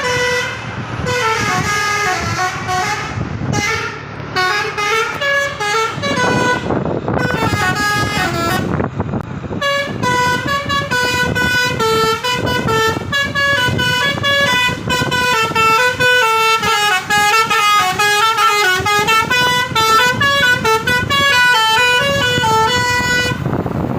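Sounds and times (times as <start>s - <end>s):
musical air horn playing a tune: 0.0s - 8.8s, 9.6s - 23.5s.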